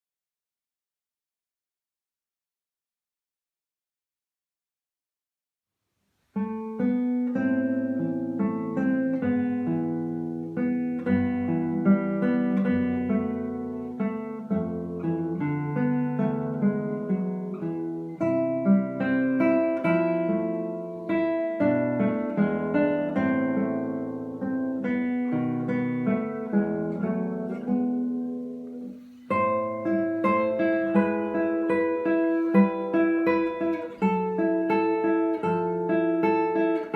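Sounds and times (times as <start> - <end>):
acoustic guitar melody: 6.1 - 36.9.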